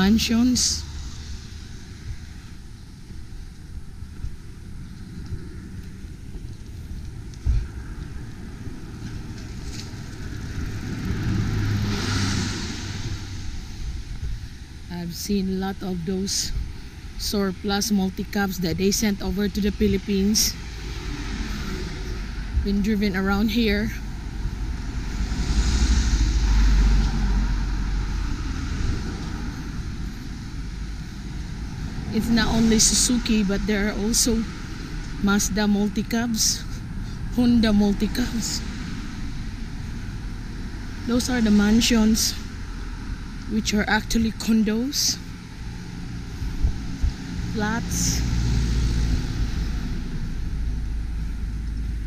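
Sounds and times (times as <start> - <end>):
car engine and tyre noise: 0.0 - 52.0
vehicle passing on road: 0.0 - 52.0
wind rumble on microphone: 0.0 - 52.0.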